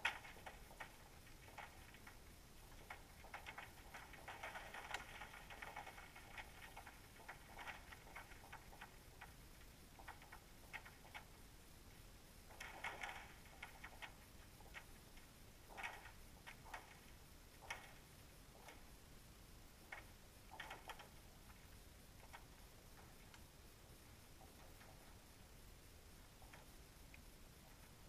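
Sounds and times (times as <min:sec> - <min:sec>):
faint underwater clicks and ticks: 0:00.0 - 0:28.0.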